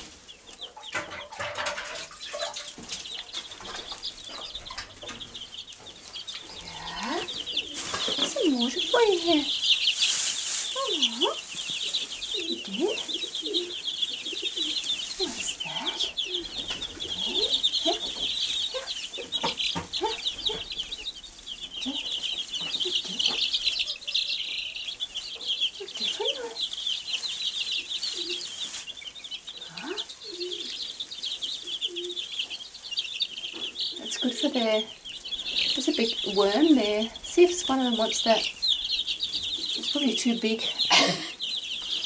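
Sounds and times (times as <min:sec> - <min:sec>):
rustling straw: 0:00.0 - 0:00.7, 0:01.9 - 0:42.0
chicks peeping: 0:00.0 - 0:42.0.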